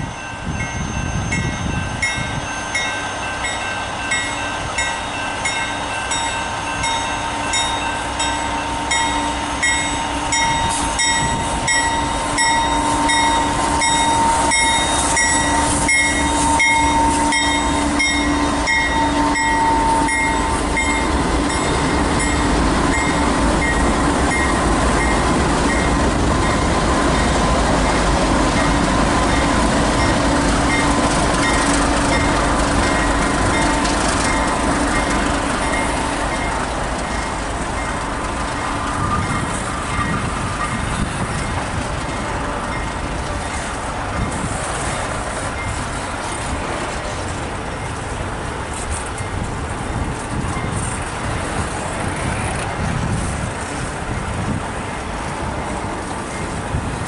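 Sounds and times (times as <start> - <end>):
crossing bell ringing: 0.0 - 46.0
diesel locomotive engine: 0.0 - 57.0
train wheel noise: 0.0 - 57.0.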